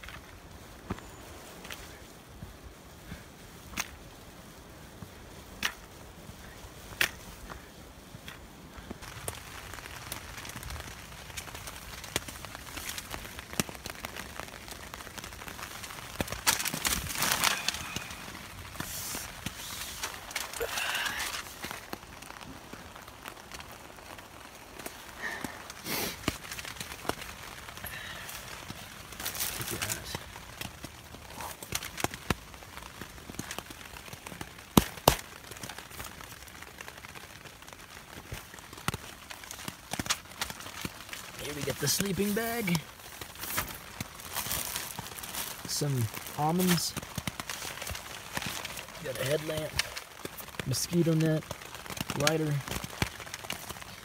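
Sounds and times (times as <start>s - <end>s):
crinkly foil pad crackling: 0.0s - 54.0s
rain pattering on tent fabric: 0.0s - 54.0s.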